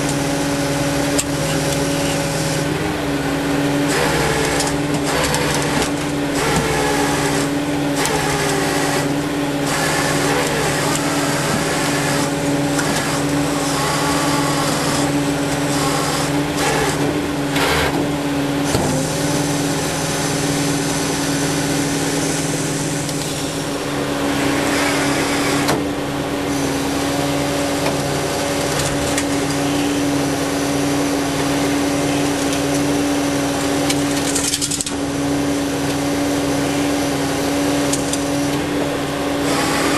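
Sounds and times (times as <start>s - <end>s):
tow truck engine whining: 0.0s - 39.9s.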